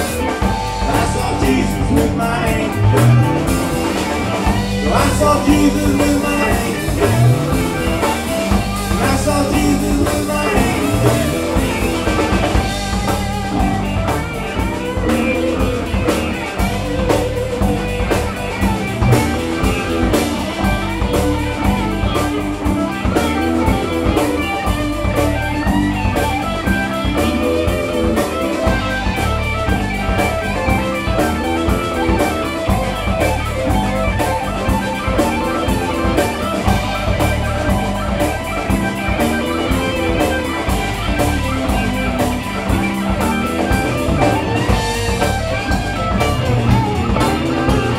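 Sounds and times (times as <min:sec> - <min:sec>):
drum kit beat: 0:00.0 - 0:47.9
guitars: 0:00.0 - 0:47.9.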